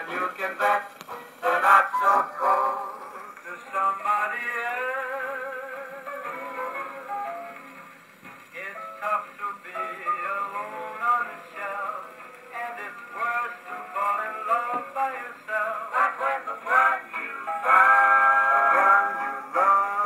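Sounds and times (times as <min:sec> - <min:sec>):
man singing on old record: 0:00.0 - 0:07.7, 0:08.5 - 0:20.0.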